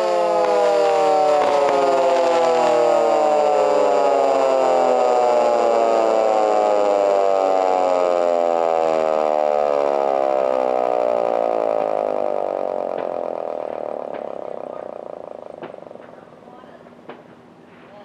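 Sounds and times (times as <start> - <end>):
sirens winding down: 0.0 - 17.2.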